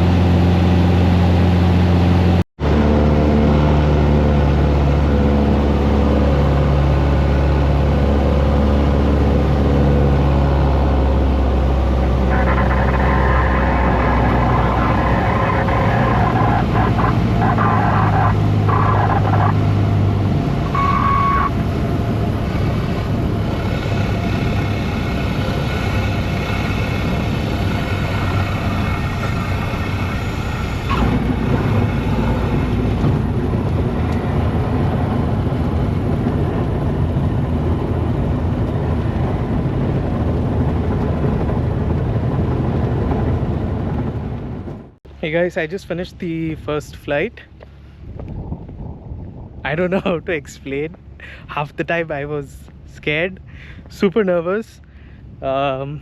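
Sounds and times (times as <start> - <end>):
light aircraft engine and propeller: 0.0 - 16.0, 16.7 - 54.0.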